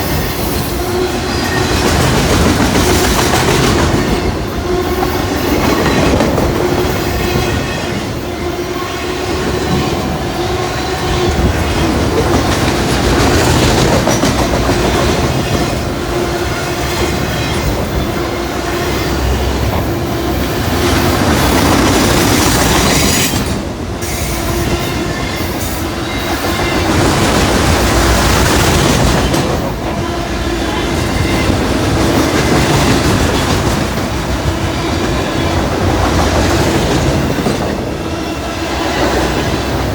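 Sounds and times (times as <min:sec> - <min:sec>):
steady tone from wheels on rails: 0:00.0 - 0:39.9.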